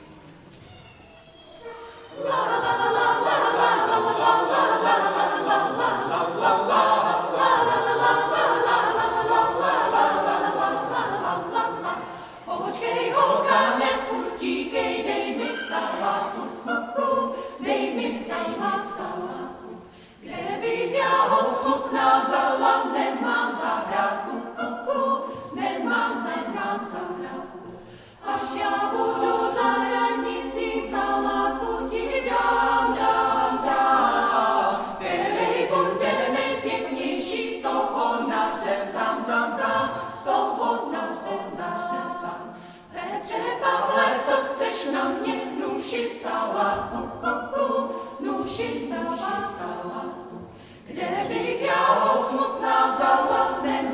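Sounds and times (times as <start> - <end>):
choir singing a cappella: 1.6 - 53.9.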